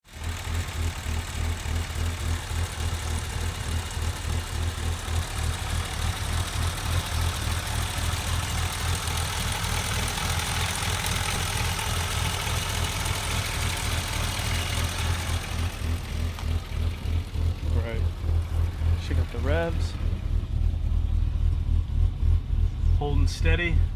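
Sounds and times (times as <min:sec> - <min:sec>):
car engine idling rough: 0:00.0 - 0:23.9.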